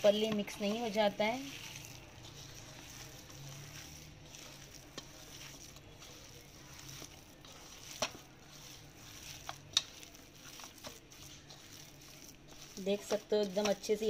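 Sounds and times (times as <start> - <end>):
wet squishing of kneaded meat: 0.0 - 14.0.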